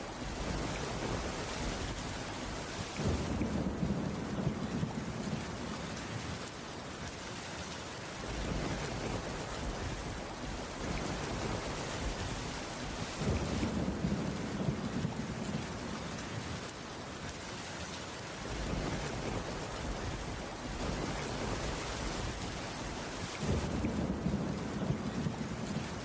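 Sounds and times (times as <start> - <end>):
steady rainfall: 0.0 - 26.0
low rumbles of thunder: 0.1 - 6.5, 8.2 - 16.7, 18.4 - 26.0.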